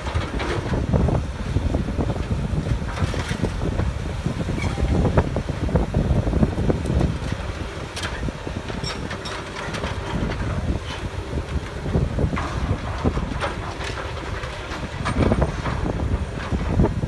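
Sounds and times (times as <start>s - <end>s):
excavator diesel engine under load: 0.0s - 17.0s
wind buffeting microphone: 0.0s - 17.0s.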